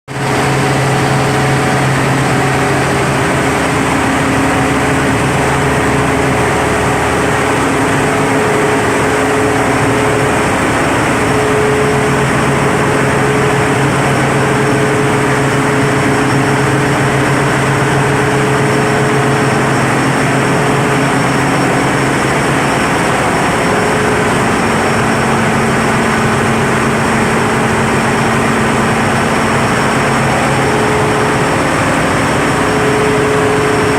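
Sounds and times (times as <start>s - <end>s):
diesel generators droning: 0.1s - 33.9s.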